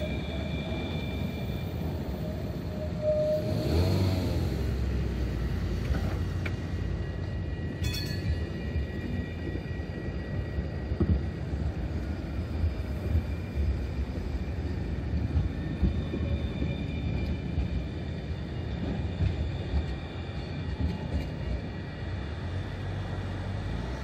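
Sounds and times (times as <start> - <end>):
tram wheels rumbling on rail: 0.0 - 24.0.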